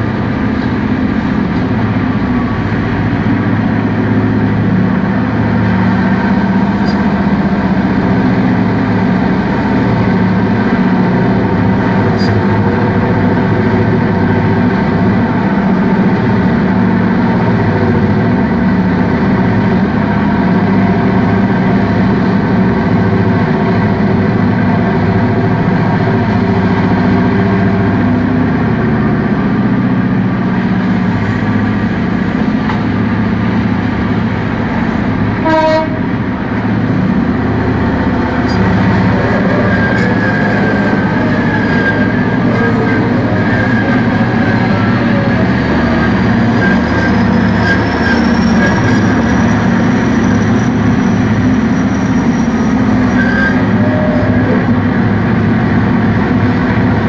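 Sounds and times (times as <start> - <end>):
heavy diesel machinery droning: 0.0 - 57.0.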